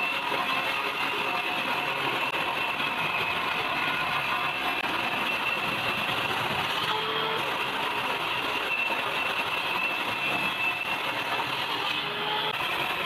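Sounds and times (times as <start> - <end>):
saw cutting wooden board: 0.0 - 13.0
table saw running: 0.0 - 13.0.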